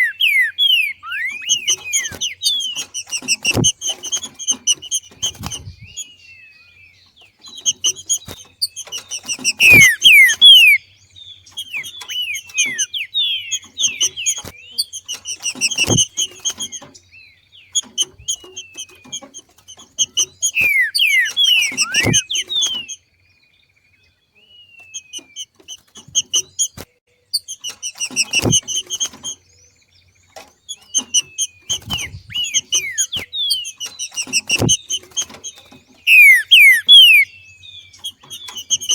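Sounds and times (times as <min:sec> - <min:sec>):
bird chattering and whistling: 0:00.0 - 0:23.1, 0:24.4 - 0:29.7, 0:30.6 - 0:38.9.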